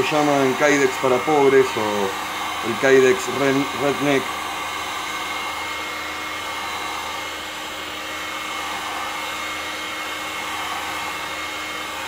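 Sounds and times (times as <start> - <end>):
heat gun blowing air: 0.0 - 12.0.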